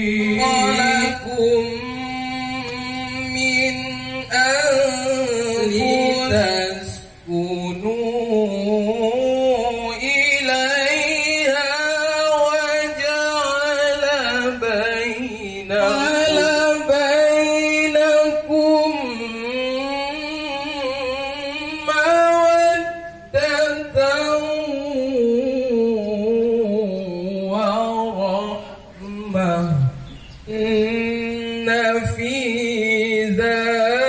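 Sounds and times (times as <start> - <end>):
person chanting a recitation: 0.0 - 34.0.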